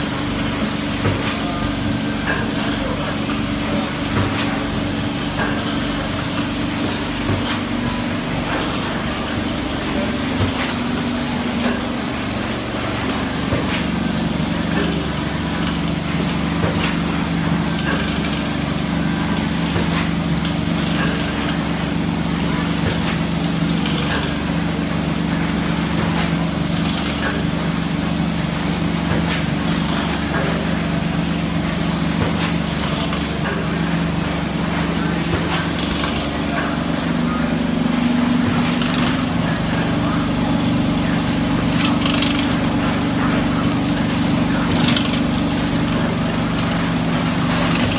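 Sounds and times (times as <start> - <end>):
machine humming: 0.0 - 47.9.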